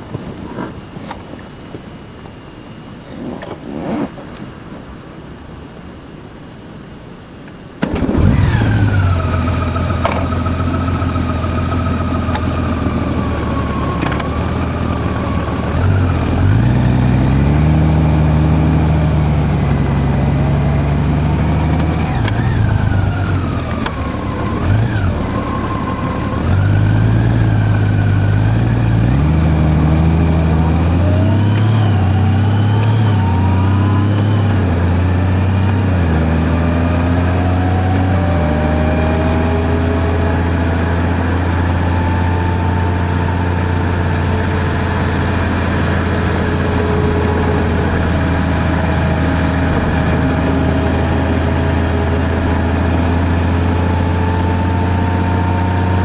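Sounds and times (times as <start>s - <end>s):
vehicle engine changing gear: 7.8s - 56.0s.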